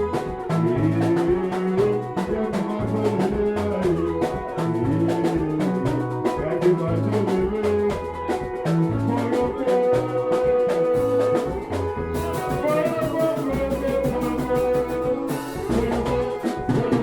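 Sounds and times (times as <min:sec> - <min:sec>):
music with drum beat and bass: 0:00.0 - 0:17.0.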